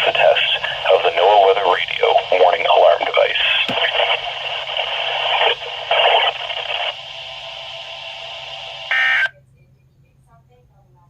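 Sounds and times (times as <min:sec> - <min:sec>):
static-filled weather radio broadcast: 0:00.0 - 0:09.3.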